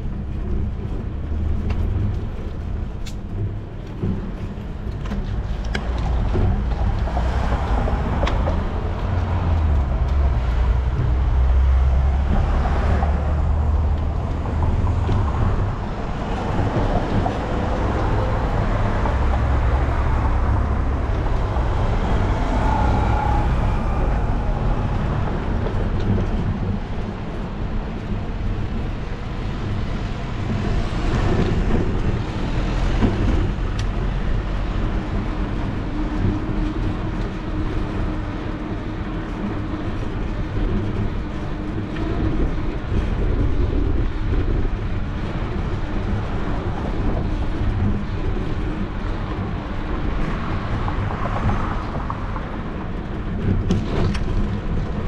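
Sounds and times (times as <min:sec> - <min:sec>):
bicycle rolling noise: 0:00.0 - 0:55.0
street traffic passing: 0:00.0 - 0:55.0
wind on microphone: 0:00.0 - 0:55.0.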